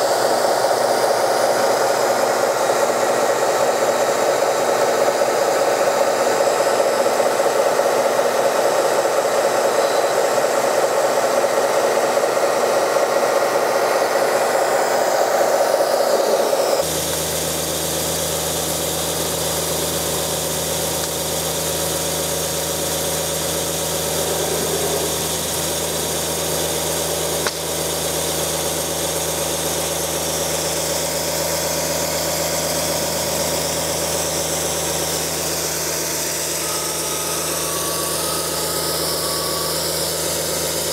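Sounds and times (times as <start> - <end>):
small electric water pump running: 0.0 - 40.9.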